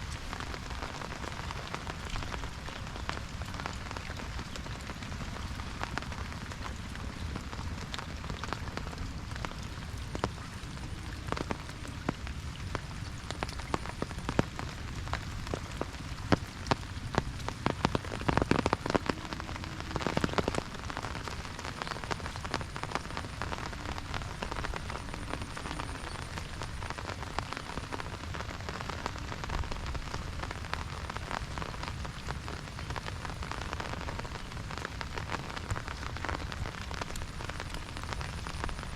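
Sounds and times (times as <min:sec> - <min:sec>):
rain hissing on a field: 0:00.0 - 0:38.9
rain pattering on an umbrella: 0:00.0 - 0:38.9.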